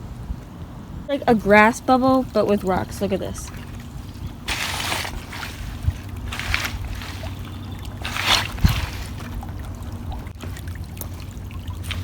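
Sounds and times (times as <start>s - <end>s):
steady low rumble: 0.0s - 12.0s
floodwater sloshing and gurgling: 1.2s - 12.0s.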